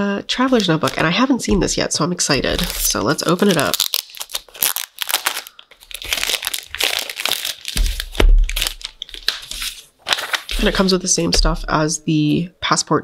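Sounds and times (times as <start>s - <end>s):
plastic wrapping crinkling: 0.4s - 11.5s.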